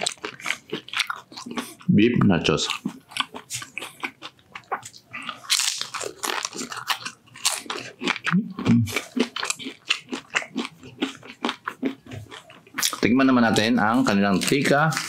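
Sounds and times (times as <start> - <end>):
chewing crunchy chips: 0.0 - 15.0.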